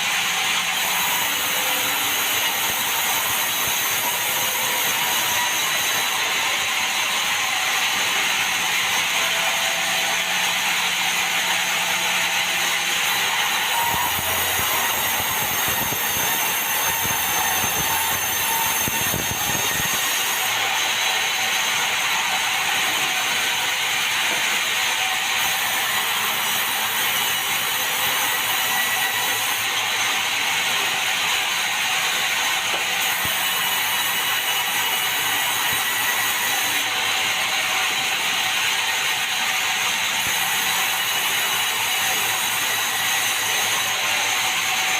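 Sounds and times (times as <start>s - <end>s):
saw blade cutting wood: 0.0s - 44.9s.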